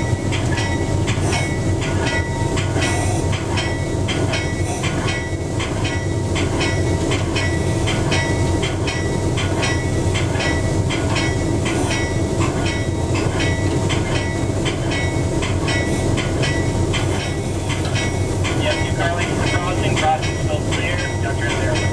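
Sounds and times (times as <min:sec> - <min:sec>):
train rumbling: 0:00.0 - 0:21.9.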